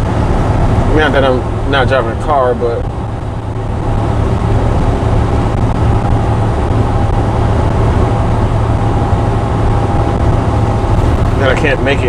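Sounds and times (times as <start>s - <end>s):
faint steady whine: 0.0s - 12.0s
road noise: 0.0s - 12.0s
truck engine drone: 0.0s - 12.0s.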